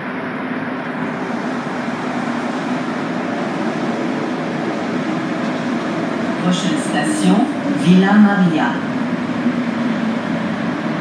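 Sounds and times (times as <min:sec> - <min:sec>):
train running noise from inside: 0:00.0 - 0:11.0.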